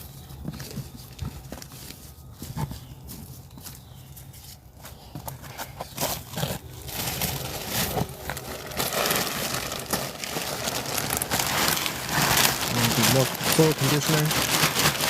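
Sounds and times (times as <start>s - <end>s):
hands crinkling soil and mulch: 0.0s - 15.0s.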